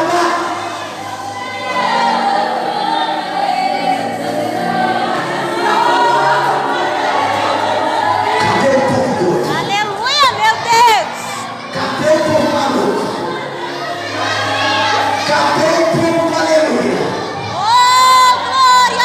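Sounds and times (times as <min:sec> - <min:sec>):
group singing gospel song: 0:00.0 - 0:19.0.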